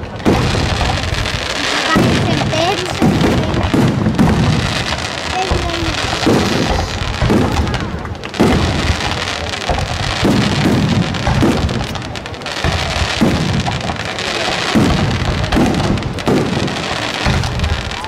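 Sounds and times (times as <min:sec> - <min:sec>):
deep firework booms: 0:00.0 - 0:18.0
firework crackle: 0:00.0 - 0:18.0.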